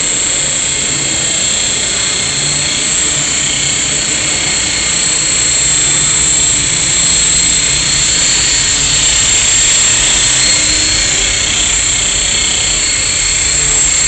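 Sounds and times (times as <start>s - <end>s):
high-pitched motor whine: 0.0s - 14.0s
rotor blades rushing: 0.0s - 14.0s.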